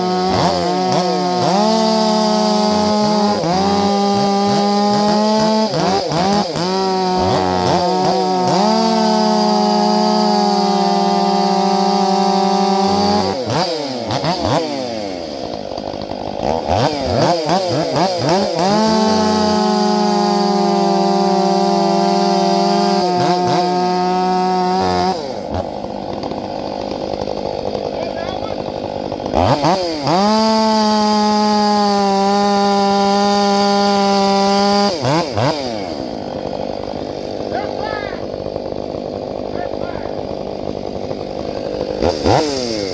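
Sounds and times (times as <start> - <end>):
chainsaw revving: 0.0 - 42.9.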